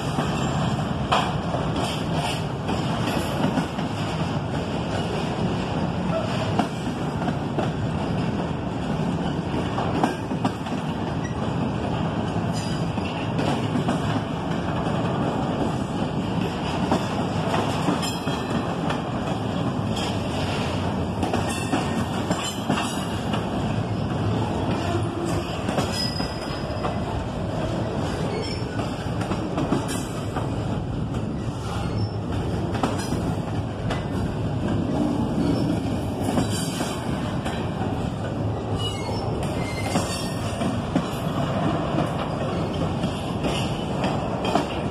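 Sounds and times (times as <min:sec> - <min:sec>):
train wheels rumbling on rails: 0:00.0 - 0:44.9
wheels clicking over rail joints: 0:00.1 - 0:44.9.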